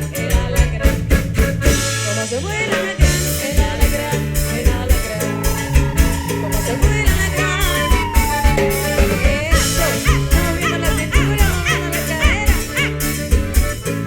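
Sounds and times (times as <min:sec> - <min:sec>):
folk band playing: 0:00.0 - 0:14.0
steady drum beat: 0:00.0 - 0:14.0.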